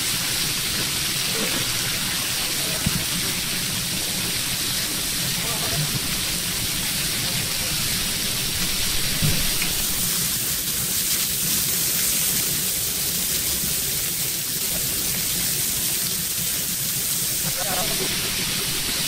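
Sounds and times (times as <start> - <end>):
meat sizzling on griddle: 0.0 - 19.0.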